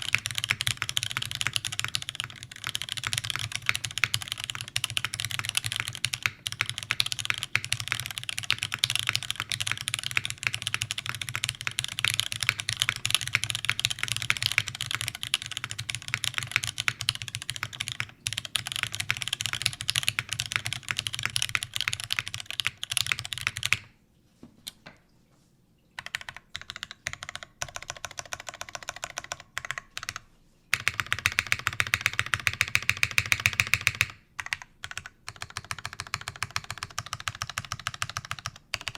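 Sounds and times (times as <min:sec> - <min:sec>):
mechanical keyboard typing: 0:00.0 - 0:23.9, 0:26.0 - 0:38.9.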